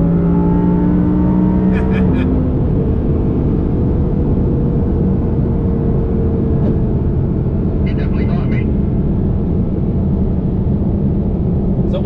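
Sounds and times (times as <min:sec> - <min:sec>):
engine drone: 0:00.0 - 0:12.0
road noise inside car: 0:00.0 - 0:12.0.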